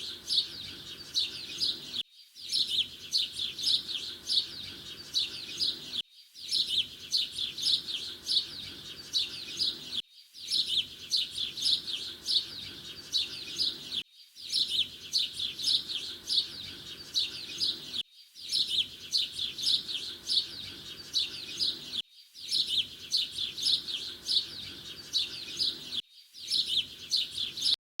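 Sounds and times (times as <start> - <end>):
canary singing chirps and trills: 0.0 - 27.8.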